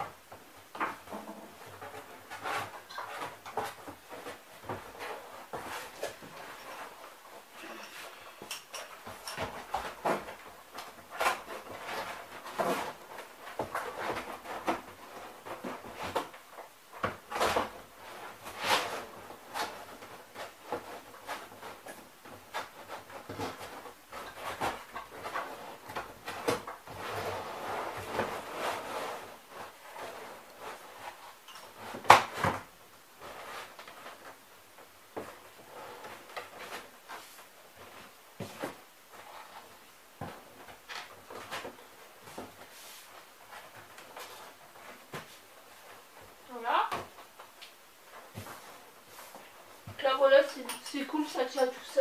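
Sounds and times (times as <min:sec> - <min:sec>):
plastic sheet rustling and scraping: 0:00.0 - 0:52.0.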